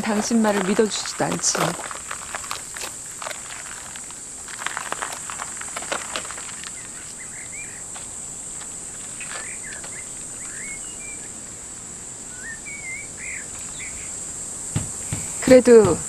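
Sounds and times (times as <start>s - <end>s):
birds chirping: 0.0s - 16.0s
insects droning: 0.0s - 16.0s.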